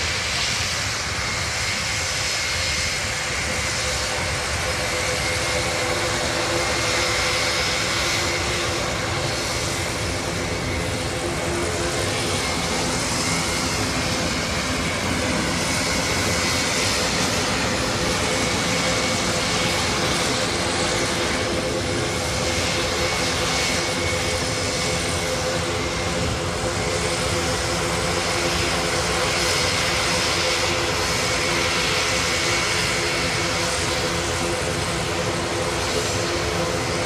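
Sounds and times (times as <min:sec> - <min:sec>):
aircraft engines droning: 0:00.0 - 0:37.0.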